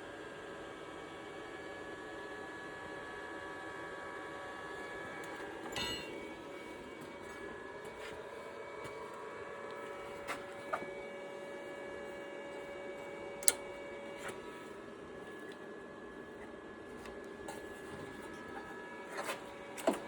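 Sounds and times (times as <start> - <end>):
low machine hum: 3.9 - 20.0.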